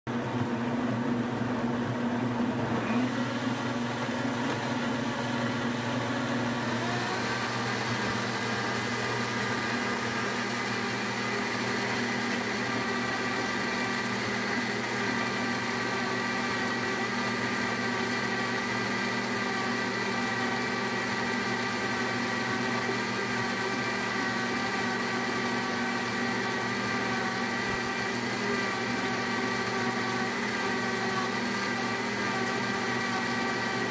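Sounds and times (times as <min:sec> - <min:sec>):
blender motor whining: 0:00.2 - 0:33.9.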